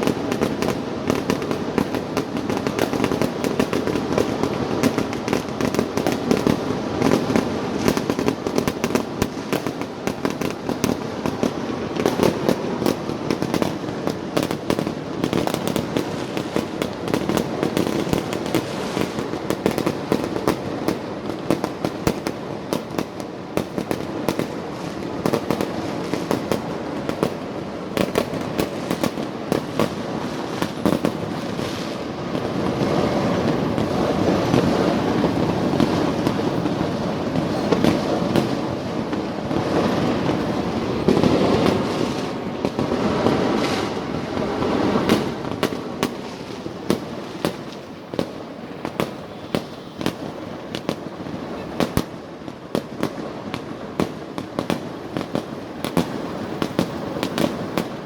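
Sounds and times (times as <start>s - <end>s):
fireworks bangs crackling: 0.0s - 58.0s.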